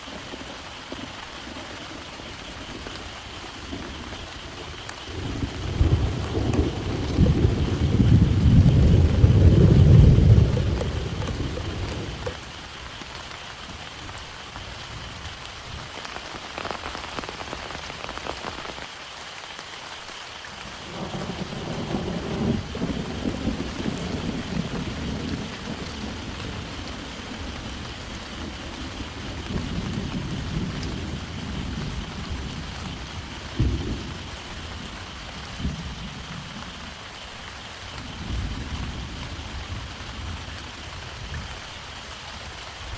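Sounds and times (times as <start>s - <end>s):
thunder rumbling: 0.0s - 13.0s, 20.6s - 42.9s
heavy rain falling: 0.0s - 42.9s.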